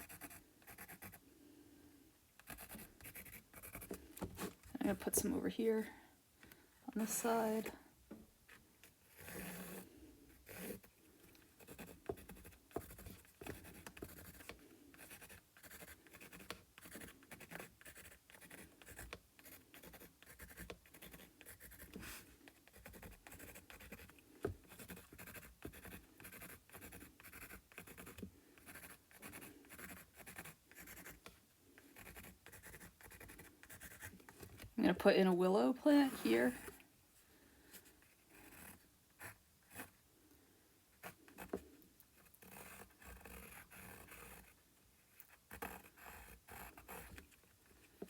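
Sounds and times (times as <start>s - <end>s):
pencil sketching strokes: 0.0s - 1.2s, 2.4s - 5.4s, 8.8s - 34.3s, 34.9s - 36.8s, 37.8s - 40.0s, 41.0s - 44.6s, 45.2s - 48.0s.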